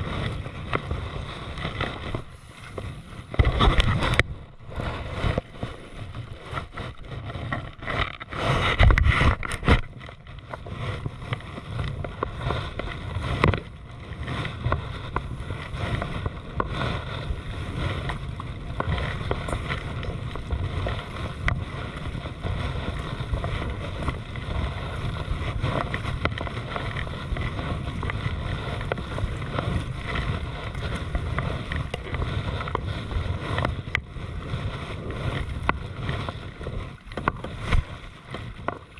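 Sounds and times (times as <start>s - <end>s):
paddle splashes: 0.0s - 38.9s
water lapping against hull: 0.0s - 38.9s
wind rumbling on microphone: 0.0s - 38.9s.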